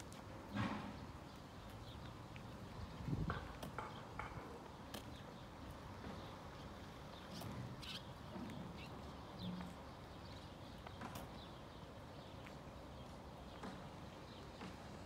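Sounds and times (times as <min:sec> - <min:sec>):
footsteps on asphalt: 0:00.0 - 0:15.0.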